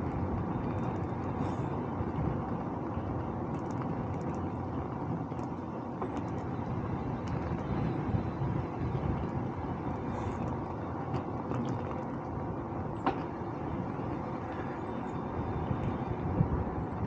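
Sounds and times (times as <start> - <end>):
bicycle rumbling: 0.0 - 17.0
wind noise: 0.0 - 17.0.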